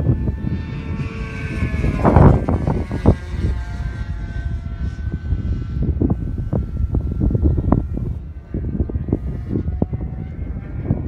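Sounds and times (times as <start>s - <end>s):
model plane engine whine: 0.0s - 11.0s
wind rumbling on microphone: 0.0s - 11.0s.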